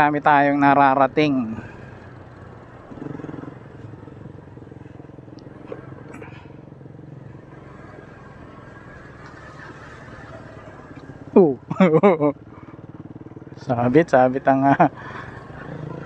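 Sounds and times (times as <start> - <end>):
small motorcycle engine running: 1.2 - 16.0.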